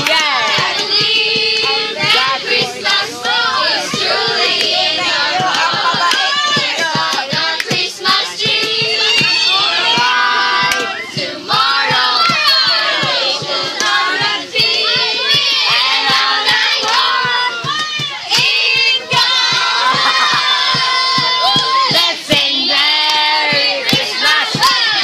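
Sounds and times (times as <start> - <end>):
group singing and shouting: 0.0 - 25.0.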